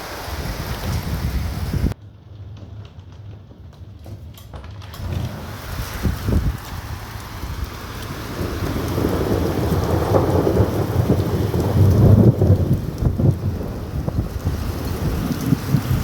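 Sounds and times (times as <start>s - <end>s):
steady rain: 0.0s - 2.0s, 4.8s - 16.0s
thunder rumbling: 0.0s - 2.0s, 4.9s - 16.0s.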